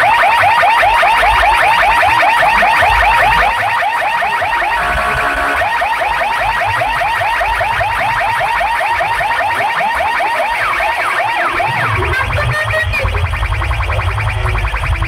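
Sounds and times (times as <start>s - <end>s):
rapid rising electronic chirps: 0.0s - 15.0s.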